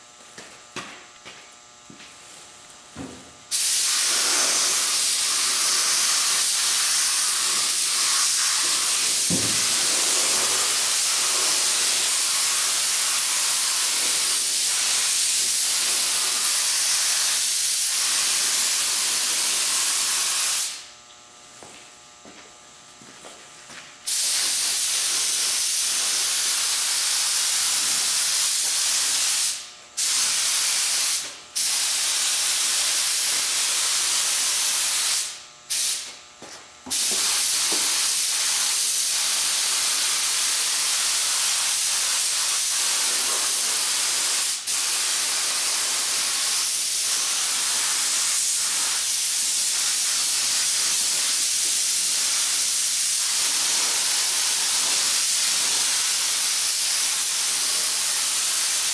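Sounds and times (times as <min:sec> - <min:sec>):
paint spray gun hissing: 0:03.5 - 0:20.9, 0:24.1 - 0:36.1, 0:36.9 - 0:58.9.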